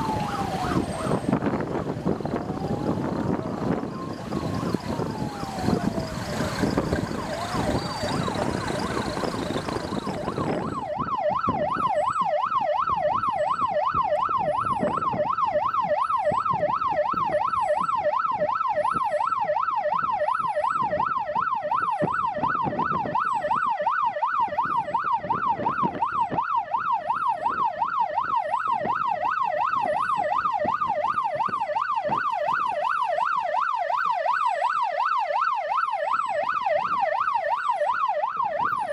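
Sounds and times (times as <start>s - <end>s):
vehicle siren wailing and yelping: 0.0s - 38.9s
wind and road noise: 0.0s - 38.9s.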